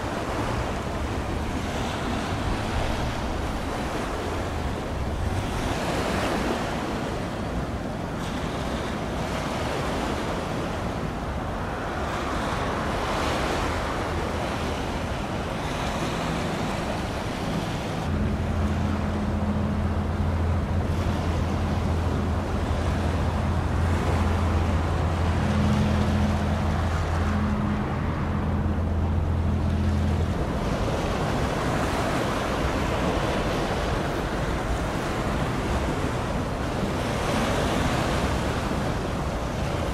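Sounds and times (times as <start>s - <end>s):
low boat engine drone: 0.0s - 39.9s.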